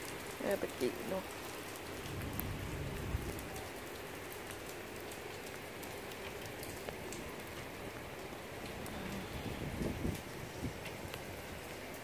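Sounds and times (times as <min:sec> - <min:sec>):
heavy rain on paving: 0:00.0 - 0:12.0.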